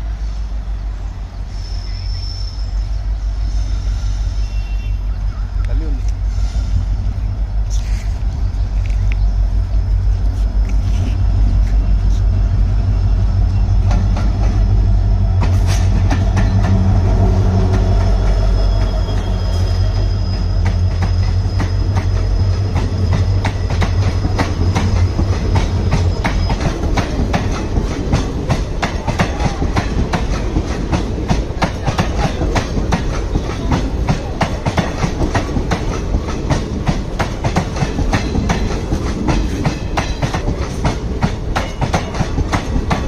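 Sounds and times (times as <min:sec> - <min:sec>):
train passing: 0:00.0 - 0:43.0
train wheels clickety-clack: 0:07.6 - 0:43.0.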